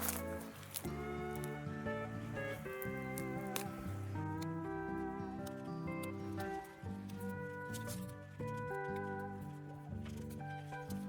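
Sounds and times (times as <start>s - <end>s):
instrumental music: 0.0s - 11.0s.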